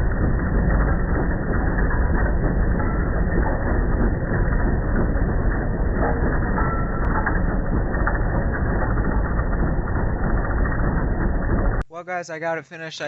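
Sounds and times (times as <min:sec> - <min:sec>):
tractor engine rumbling and rattling: 0:00.0 - 0:11.9.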